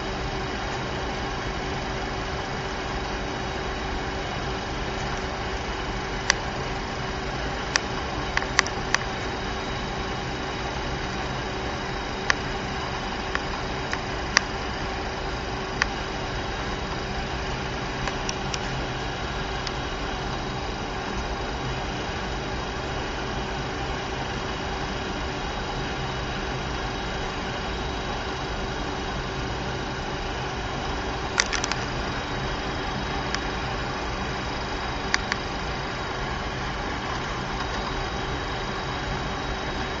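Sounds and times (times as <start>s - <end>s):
faint constant hum: 0.0s - 40.0s
jet cockpit air and engine noise: 0.0s - 40.0s.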